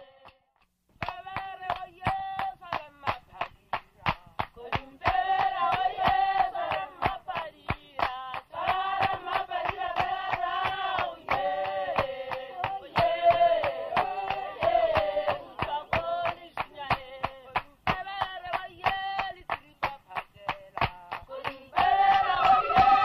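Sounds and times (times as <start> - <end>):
hand clapping: 0.2 - 23.0
group singing a chant: 1.0 - 3.2, 4.6 - 23.0.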